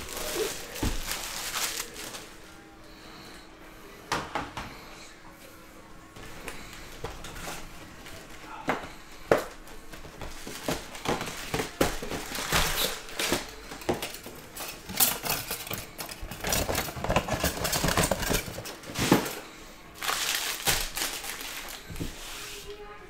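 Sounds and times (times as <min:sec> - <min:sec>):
cardboard box and packs rustling: 0:00.0 - 0:02.5, 0:06.2 - 0:22.2.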